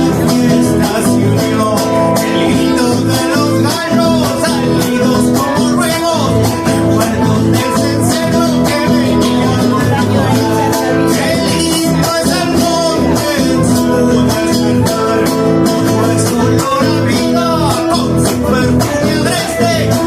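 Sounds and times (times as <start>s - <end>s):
acoustic guitar folk music: 0.0s - 20.0s.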